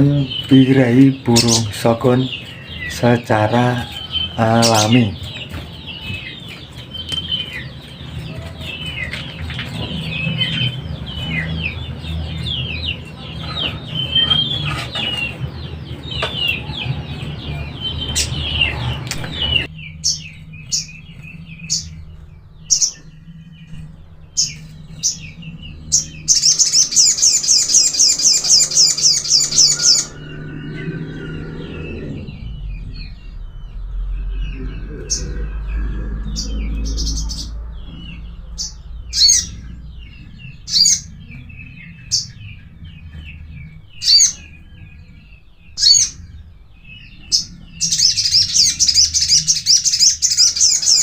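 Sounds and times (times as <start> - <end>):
bird chirping: 0.0 - 51.0
bird trilling: 0.0 - 51.0.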